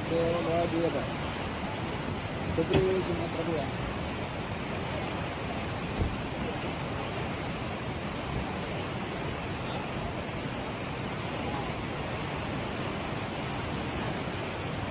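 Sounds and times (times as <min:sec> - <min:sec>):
flood water rushing: 0:00.0 - 0:14.9.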